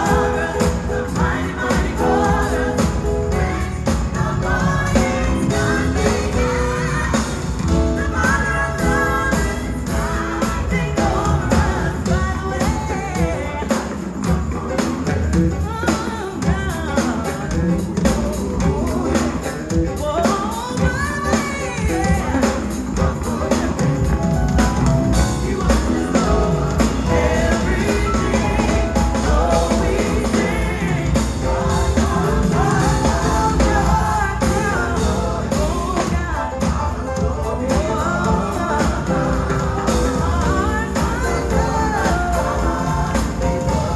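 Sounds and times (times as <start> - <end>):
band with steady beat: 0.0 - 43.9
voices singing gospel: 0.0 - 43.9.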